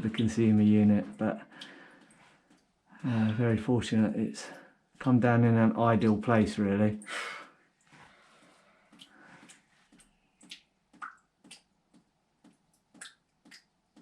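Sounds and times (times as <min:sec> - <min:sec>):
water dripping into a bucket: 0:00.0 - 0:07.2, 0:07.8 - 0:14.0.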